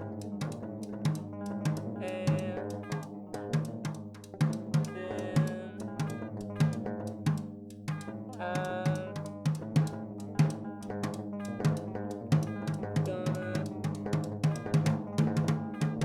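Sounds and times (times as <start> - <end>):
drum kit played busily: 0.0 - 16.0.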